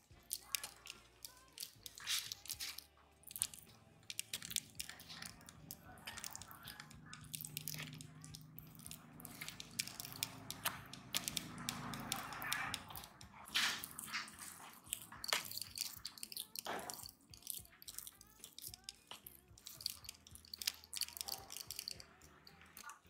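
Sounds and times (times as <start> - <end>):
spoon mashing potato: 0.0 - 23.0.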